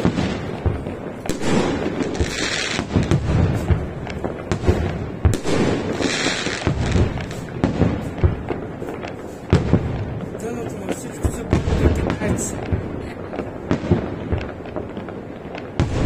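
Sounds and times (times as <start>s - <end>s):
high hiss of fireworks: 0.0s - 16.0s.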